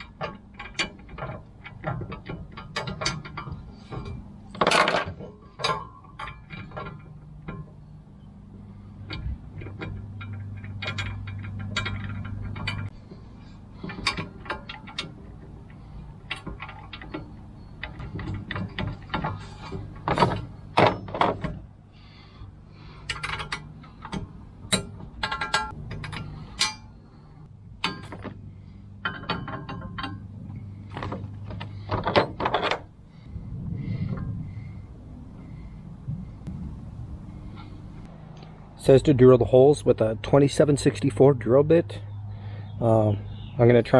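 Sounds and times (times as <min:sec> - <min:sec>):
metallic clinks and knocks: 0:00.0 - 0:36.5
steady low hum: 0:00.0 - 0:43.9.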